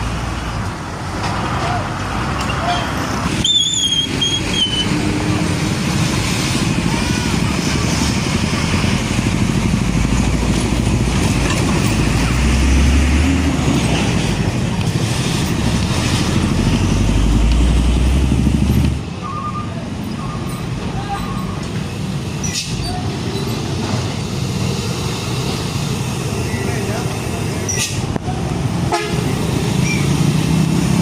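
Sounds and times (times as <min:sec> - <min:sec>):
heavy trucks passing: 0:00.0 - 0:31.0.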